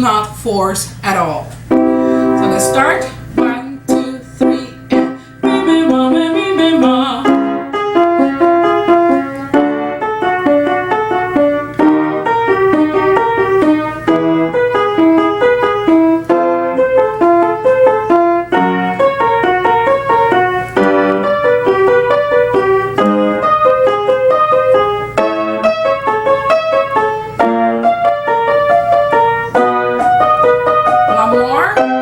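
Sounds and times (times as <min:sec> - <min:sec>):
piano note pattern: 0:00.0 - 0:32.0.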